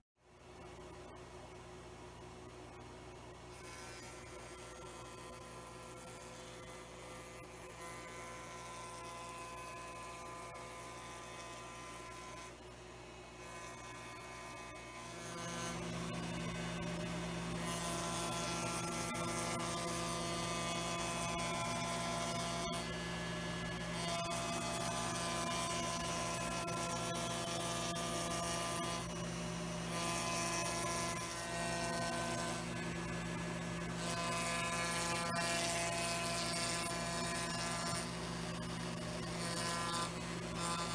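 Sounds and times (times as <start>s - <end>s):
router motor humming: 3.6s - 40.9s.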